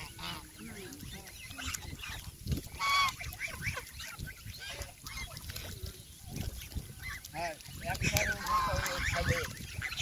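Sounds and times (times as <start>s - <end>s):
geese honking and chattering: 0.0s - 10.0s.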